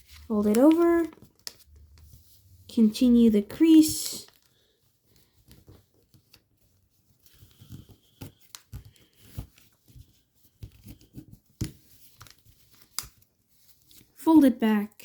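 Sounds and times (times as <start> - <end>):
paper crinkling: 0.0 - 14.2.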